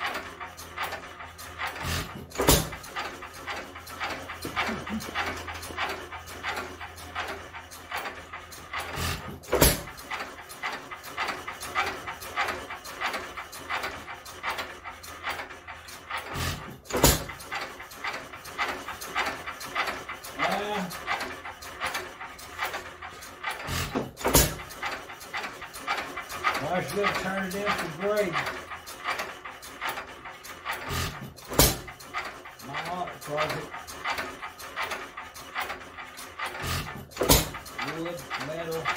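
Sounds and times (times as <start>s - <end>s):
engine firing stroke: 0.0s - 38.9s
hit-and-miss engine chuffing: 0.0s - 38.9s.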